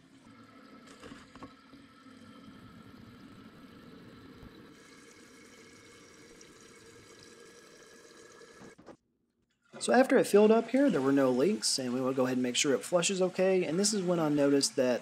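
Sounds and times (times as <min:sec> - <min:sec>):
water rushing into toilet tank: 0:00.0 - 0:08.8, 0:09.8 - 0:15.0.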